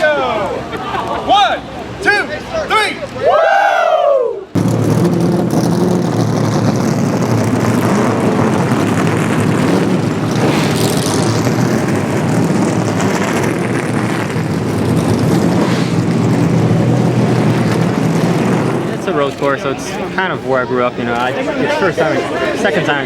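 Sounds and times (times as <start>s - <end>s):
race car engines droning: 0.0s - 23.0s
race car passing by: 4.0s - 23.0s.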